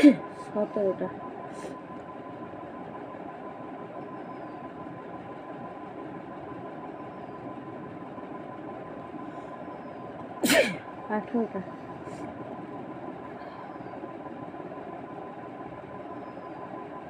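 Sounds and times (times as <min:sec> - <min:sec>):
background hum and hiss: 0:00.0 - 0:17.0.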